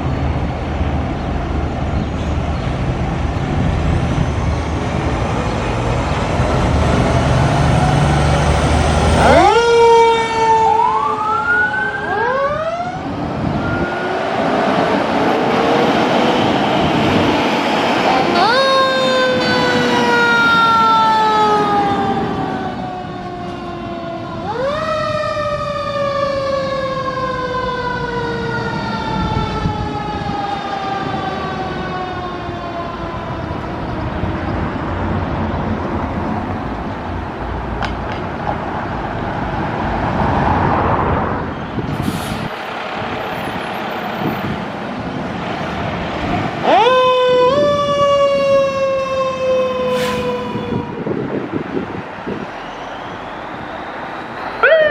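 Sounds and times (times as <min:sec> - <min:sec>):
road noise: 0:00.0 - 0:54.9
truck engine: 0:00.0 - 0:54.9
fire engine siren wailing: 0:03.0 - 0:35.0, 0:39.2 - 0:54.9.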